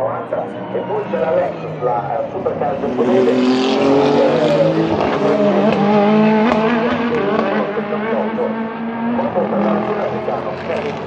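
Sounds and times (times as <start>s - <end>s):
race car engines at speed: 0.0s - 11.0s.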